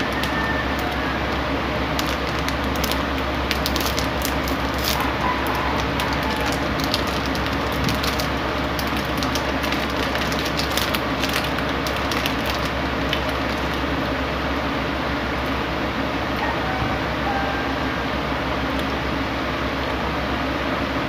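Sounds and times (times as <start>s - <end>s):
low hum and hiss: 0.0s - 21.0s.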